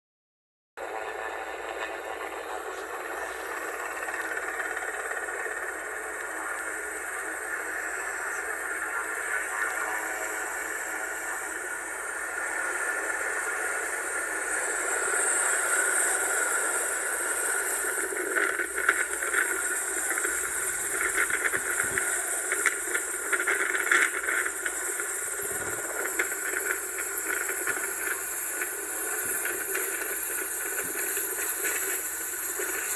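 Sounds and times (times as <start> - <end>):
helicopter hovering: 0.8 - 32.9.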